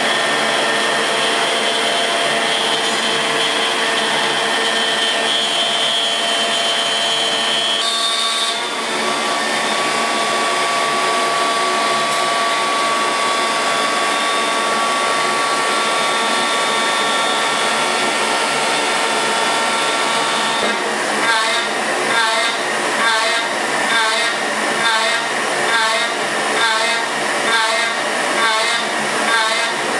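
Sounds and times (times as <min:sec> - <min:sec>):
milling machine spindle whine: 0:00.0 - 0:29.9.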